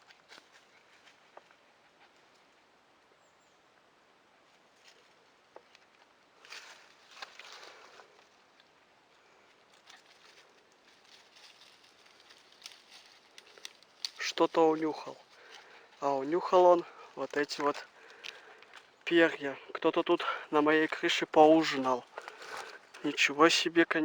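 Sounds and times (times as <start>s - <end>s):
rustling of dry leaves: 0.0s - 24.0s.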